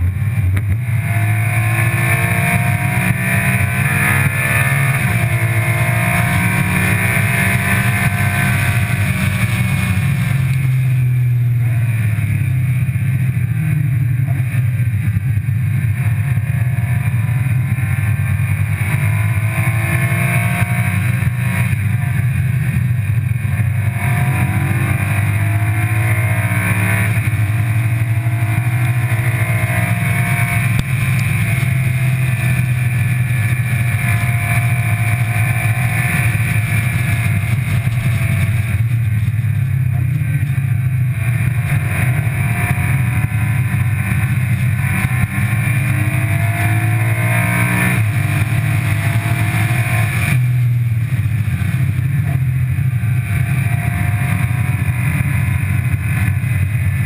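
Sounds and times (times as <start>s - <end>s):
race car engine revving: 0.0s - 57.0s
wind and road noise: 0.0s - 57.0s.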